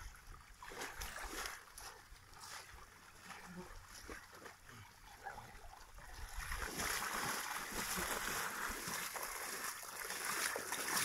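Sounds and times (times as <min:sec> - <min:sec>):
water splashing around legs: 0:00.0 - 0:11.0.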